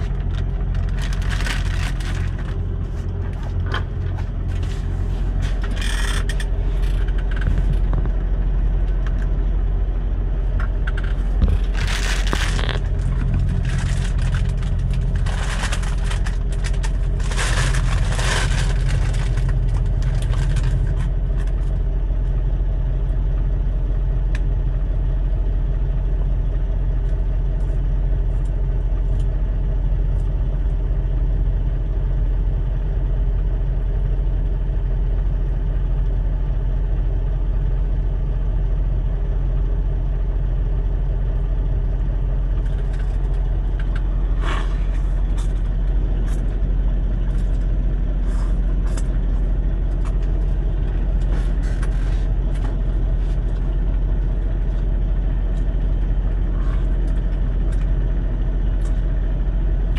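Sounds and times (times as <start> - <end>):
truck diesel engine idling: 0.0 - 59.9.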